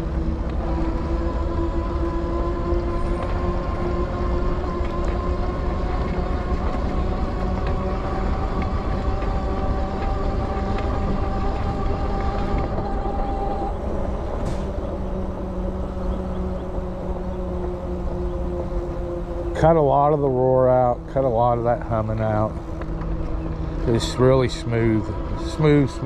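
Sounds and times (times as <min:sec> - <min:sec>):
electric bike motor whine: 0:00.0 - 0:26.0
tires rolling on pavement: 0:00.0 - 0:26.0.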